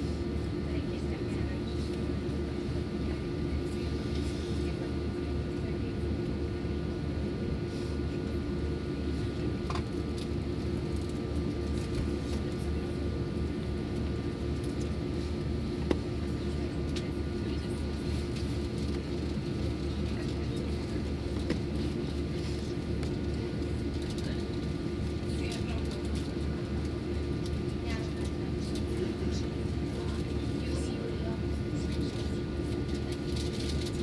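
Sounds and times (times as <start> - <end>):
jet engines idling: 0.0 - 34.0.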